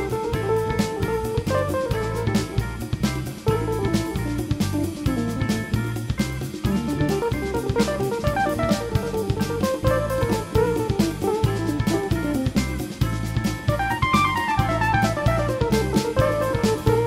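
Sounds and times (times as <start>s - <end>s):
instrumental music with drums and guitar: 0.0s - 17.0s.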